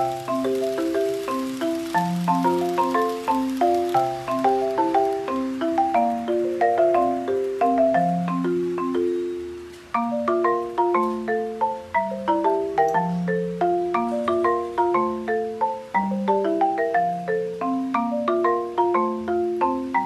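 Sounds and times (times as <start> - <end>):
mallet percussion melody: 0.0 - 20.0.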